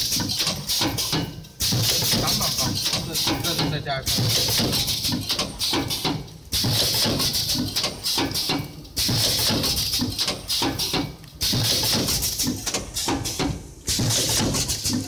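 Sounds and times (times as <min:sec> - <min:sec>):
packaging machine clattering: 0:00.0 - 0:15.0.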